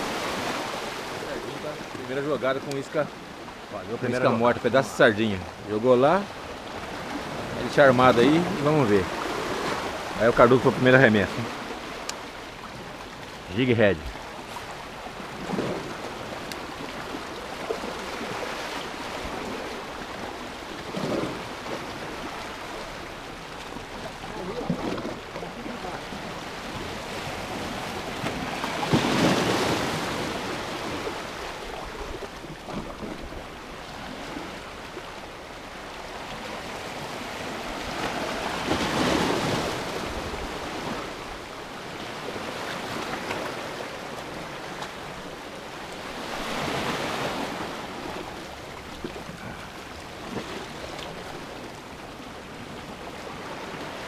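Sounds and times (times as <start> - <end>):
bigger waves breaking: 0.0 - 54.0
small waves splashing on rocks: 0.0 - 54.0
surf washing: 0.0 - 54.0.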